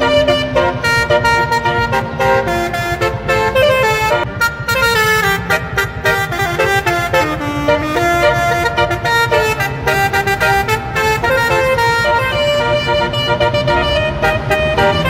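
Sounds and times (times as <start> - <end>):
brassy horn melody: 0.0 - 15.0.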